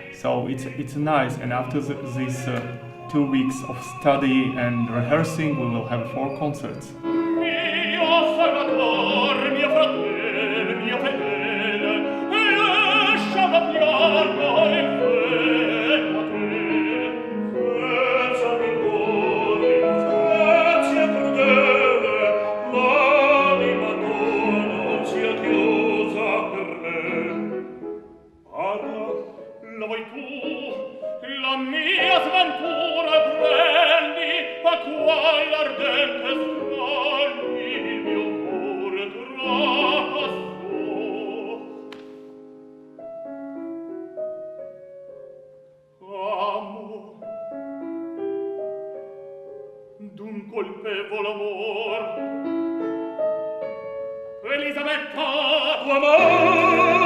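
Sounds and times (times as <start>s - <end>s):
operatic singing: 0.0s - 42.2s, 46.0s - 47.5s, 50.0s - 52.7s, 54.4s - 57.0s.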